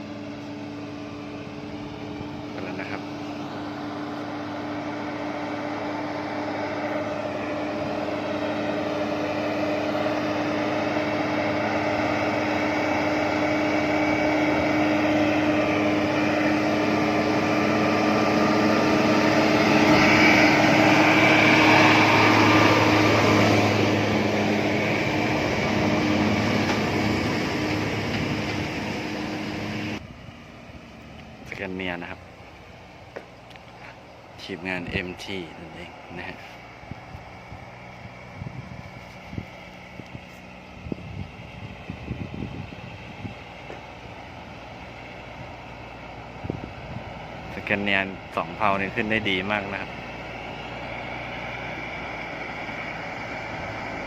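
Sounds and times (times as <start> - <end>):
diesel truck engine drone: 0.0 - 54.0.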